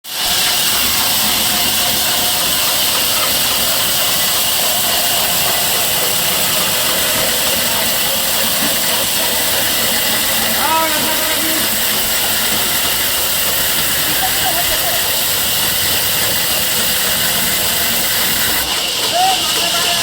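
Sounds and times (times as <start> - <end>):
loud steady hiss: 0.1 - 20.0.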